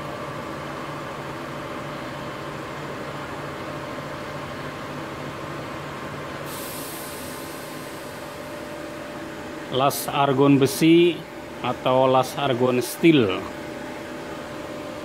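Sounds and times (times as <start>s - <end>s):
welding equipment hum and fan: 0.0s - 15.0s.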